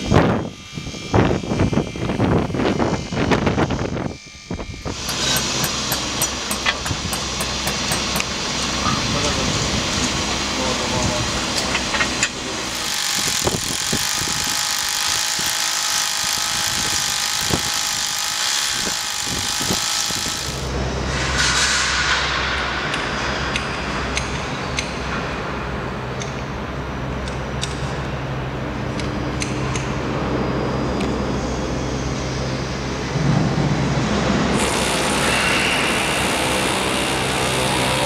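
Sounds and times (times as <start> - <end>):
machinery hum: 0.0 - 38.0.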